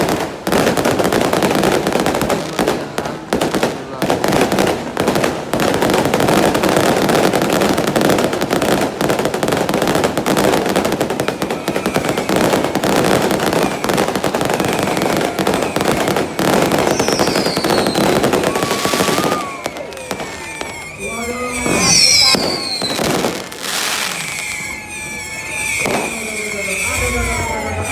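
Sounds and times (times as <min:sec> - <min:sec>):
fireworks bangs and crackles: 0:00.0 - 0:27.9
fireworks whistling: 0:00.0 - 0:27.9.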